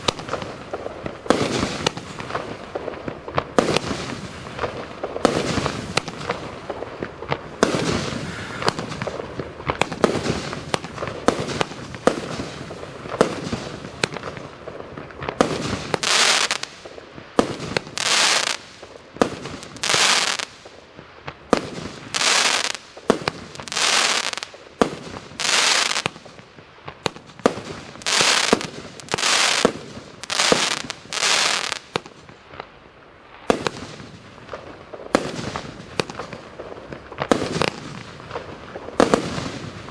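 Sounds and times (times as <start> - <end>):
fireworks sharp cracks: 0.0 - 39.9
hissing crackle fireworks bursts: 0.0 - 39.9.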